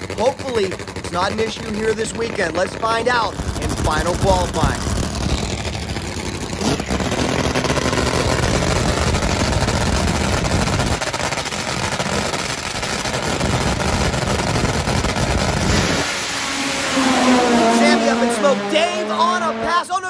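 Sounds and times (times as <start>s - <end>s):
deep low engine rumble: 0.0s - 19.8s
drag motorcycle engines running rough: 0.0s - 20.0s.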